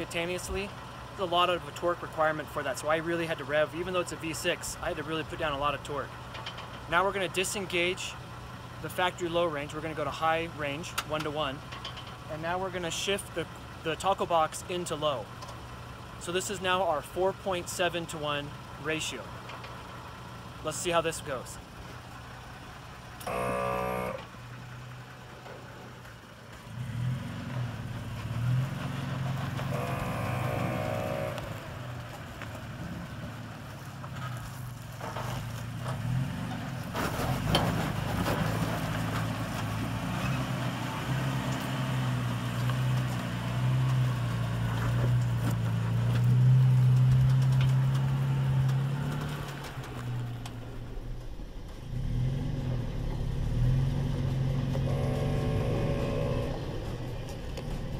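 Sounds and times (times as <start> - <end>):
truck engine under load: 0.0 - 57.9.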